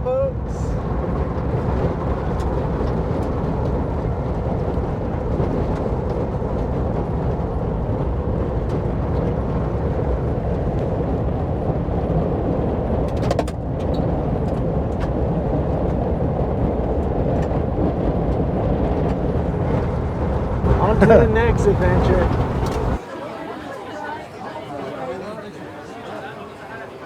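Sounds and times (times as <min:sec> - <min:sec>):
road noise on dirt trail: 0:00.4 - 0:23.0
van engine running: 0:00.8 - 0:23.0.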